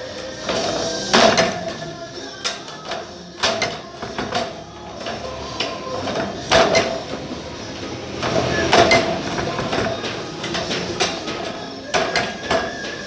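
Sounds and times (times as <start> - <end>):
metallic knocking and clatter: 0.4 - 13.0
ringing metallic knocks: 0.5 - 7.4, 8.2 - 13.0.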